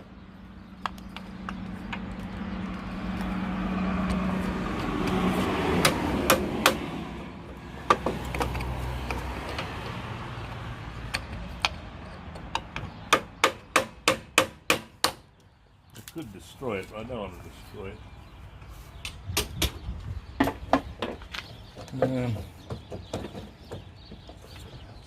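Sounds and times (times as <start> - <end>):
low hum of passing vehicle: 0.0 - 25.0.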